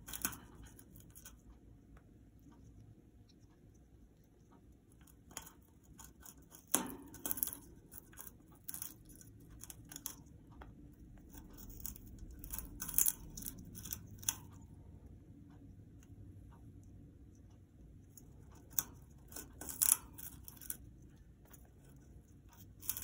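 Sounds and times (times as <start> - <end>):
parrot chewing wood: 0.0 - 14.9, 15.9 - 23.0.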